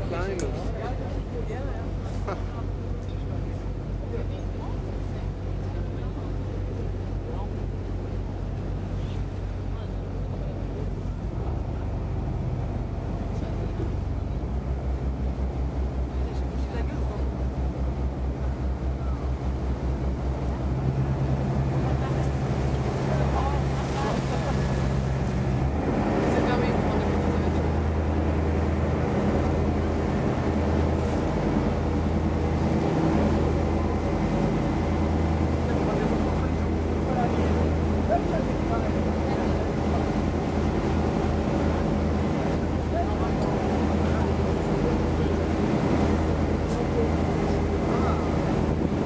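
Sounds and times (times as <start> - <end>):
boat engine droning: 0.0 - 49.0
water noise: 0.0 - 49.0.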